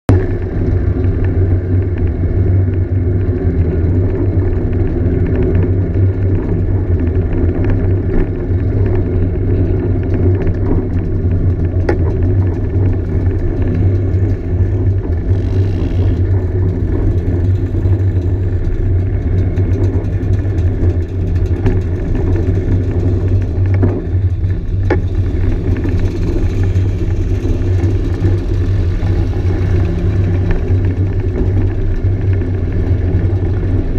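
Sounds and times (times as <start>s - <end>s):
scooter engines droning: 0.1s - 33.9s.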